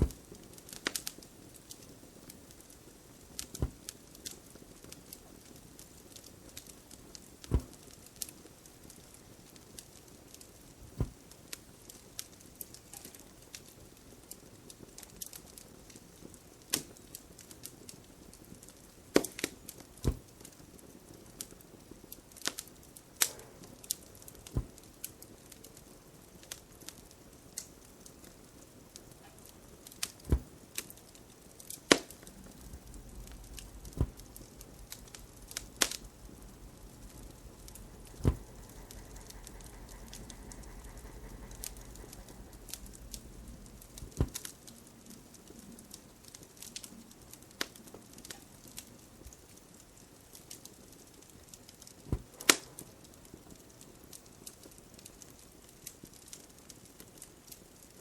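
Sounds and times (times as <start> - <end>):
faint steady hiss: 0.0 - 58.0
wood fire crackling: 0.0 - 58.0.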